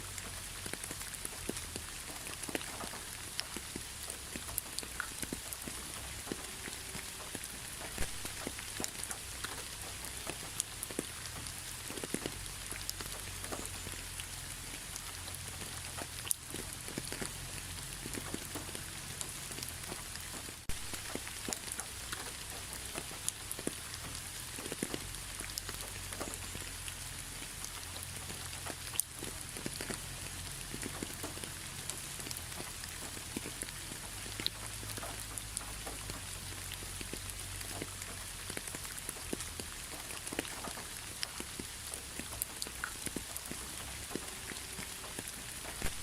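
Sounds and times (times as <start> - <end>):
rain hissing: 0.0 - 46.0
raindrops ticking on a surface: 0.0 - 46.0.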